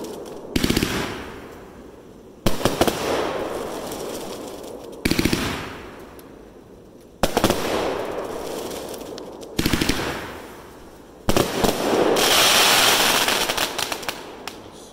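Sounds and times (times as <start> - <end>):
firework shots firing: 0.0 - 6.4, 7.2 - 14.7
crackle of bursting stars: 0.0 - 14.9.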